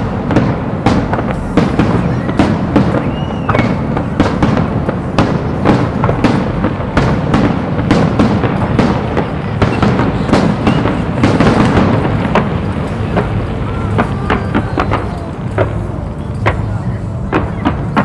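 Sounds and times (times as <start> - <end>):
continuous low rumble: 0.0 - 18.0
fireworks bangs and crackles: 0.0 - 18.0.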